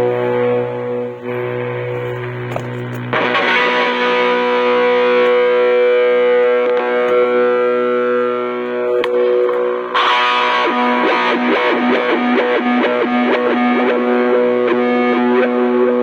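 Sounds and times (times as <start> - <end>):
distorted electric guitar chord: 0.0 - 16.0.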